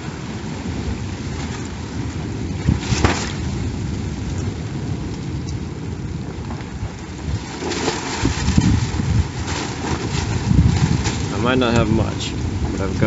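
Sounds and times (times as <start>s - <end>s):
low rumbling wind gusts: 0.0s - 13.0s
wind and rain rushing: 0.0s - 13.0s.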